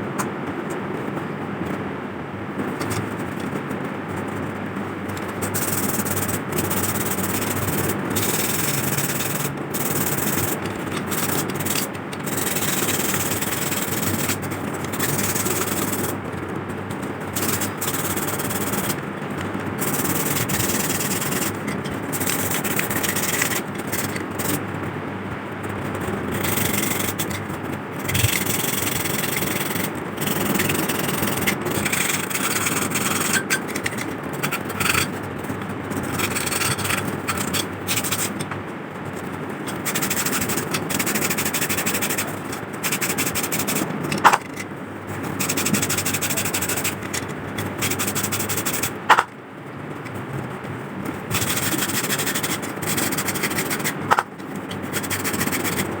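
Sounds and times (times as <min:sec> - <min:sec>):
emery paper rubbing metal: 0:05.1 - 0:16.4, 0:17.0 - 0:24.8, 0:25.9 - 0:38.5, 0:39.1 - 0:49.3, 0:51.1 - 0:56.0.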